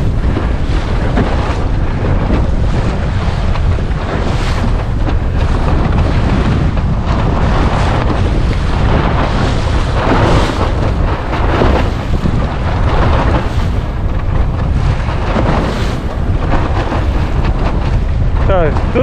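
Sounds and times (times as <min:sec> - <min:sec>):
water splashing against hull: 0:00.0 - 0:19.0
wind buffeting microphone: 0:00.0 - 0:19.0.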